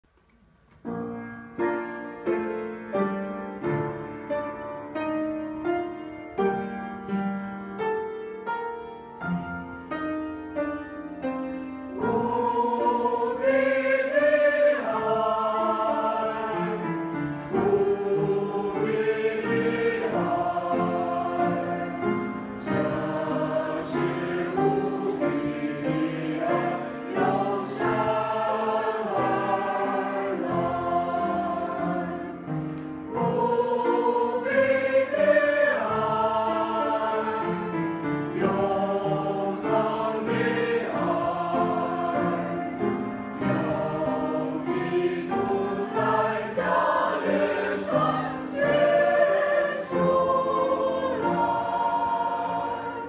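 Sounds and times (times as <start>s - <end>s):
piano notes: 0.8s - 53.0s
choir singing a hymn: 10.0s - 53.0s.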